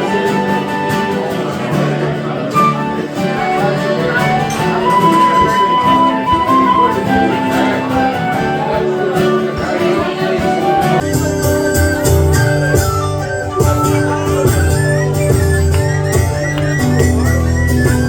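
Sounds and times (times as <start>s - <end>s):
acoustic folk tune: 0.0s - 18.0s.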